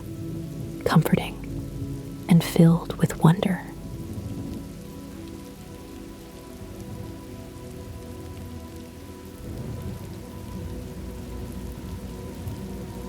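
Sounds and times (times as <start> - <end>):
rain pattering: 0.0 - 13.0
soft background music: 0.0 - 13.0.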